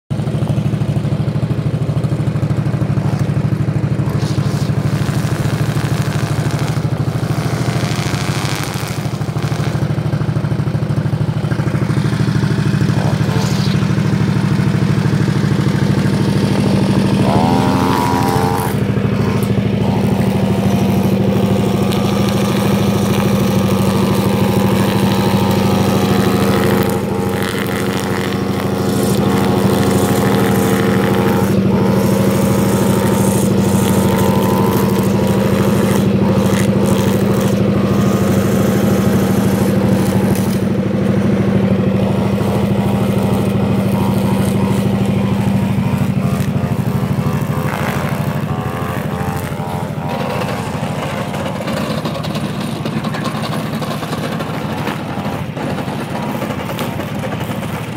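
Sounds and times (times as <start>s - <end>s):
string trimmer engine: 0.0s - 57.9s
low engine hum: 0.1s - 57.9s.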